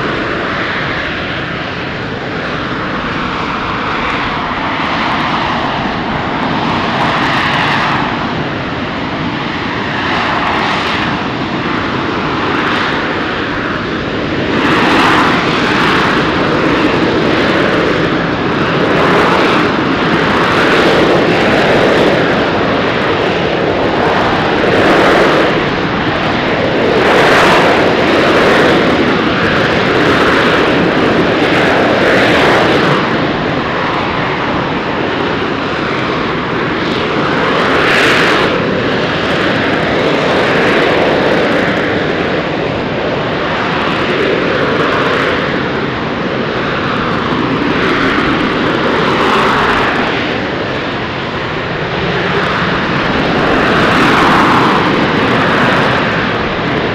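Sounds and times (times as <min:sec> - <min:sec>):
jet engine roar while hovering: 0:00.0 - 0:56.9.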